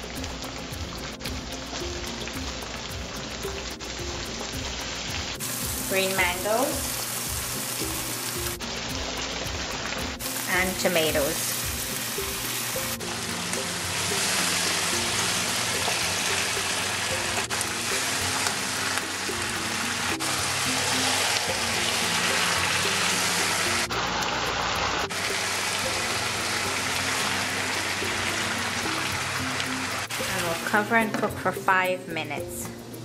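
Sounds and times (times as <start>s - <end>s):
fish frying in a wok: 0.0s - 30.8s
background music: 0.0s - 33.0s.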